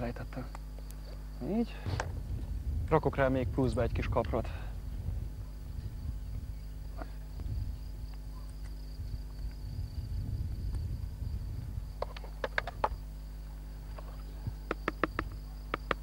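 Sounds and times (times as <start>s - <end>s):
crickets trilling: 0.0s - 16.0s
low background rumble: 0.0s - 16.0s.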